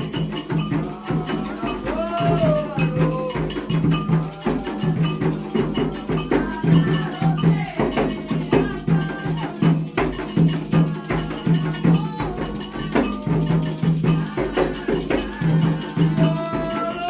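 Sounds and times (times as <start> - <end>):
hand drums: 0.0 - 17.0
metal bell struck: 0.0 - 17.0.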